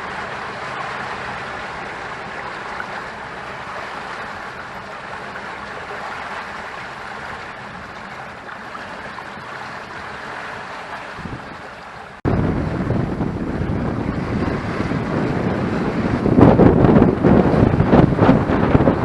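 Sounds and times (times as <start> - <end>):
water rushing along hull: 0.0 - 19.0
wind: 0.0 - 19.0.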